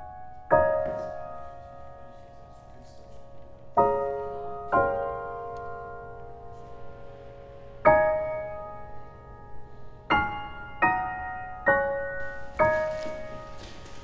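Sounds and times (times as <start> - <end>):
slow piano notes: 0.0 - 14.0.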